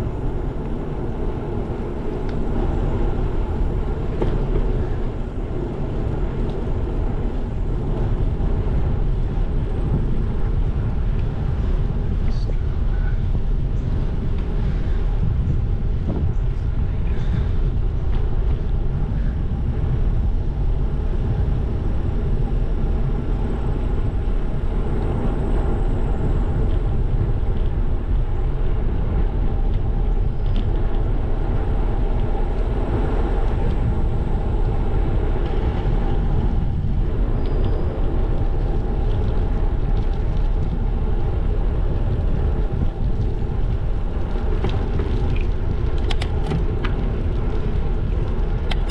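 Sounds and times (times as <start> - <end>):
bicycle tyres rolling on asphalt: 0.0 - 48.9
wind buffeting microphone: 0.0 - 48.9.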